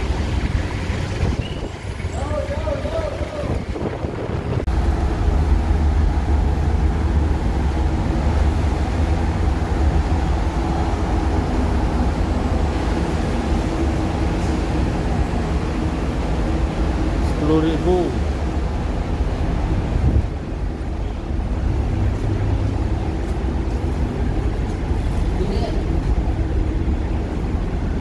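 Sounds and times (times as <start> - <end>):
ship engines rumbling: 0.0 - 28.0.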